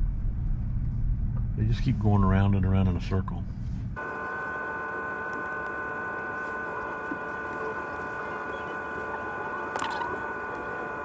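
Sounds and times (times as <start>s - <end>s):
steady hum of held tones: 0.0s - 11.0s.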